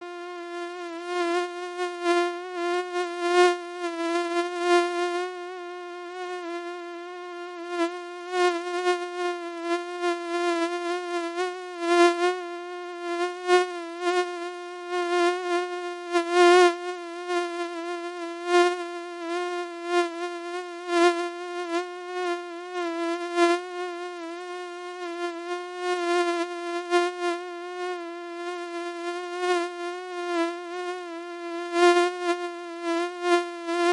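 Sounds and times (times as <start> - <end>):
mosquito wingbeat whine: 0.0 - 33.9.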